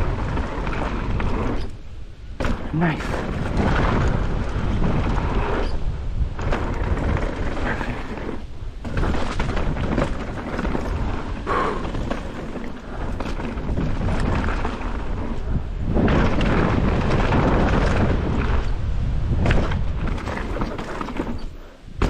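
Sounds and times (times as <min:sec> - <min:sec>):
bike tyres rolling on rough trail: 0:00.0 - 0:22.0
wind buffeting microphone: 0:00.0 - 0:22.0.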